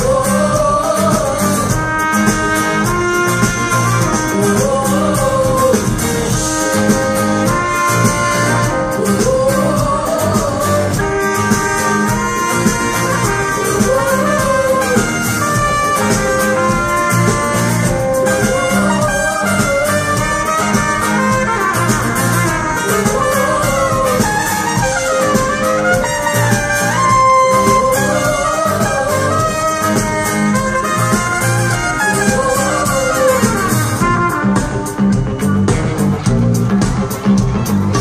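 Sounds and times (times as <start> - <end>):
live band playing: 0.0 - 38.0
saxophone lead line: 0.0 - 38.0.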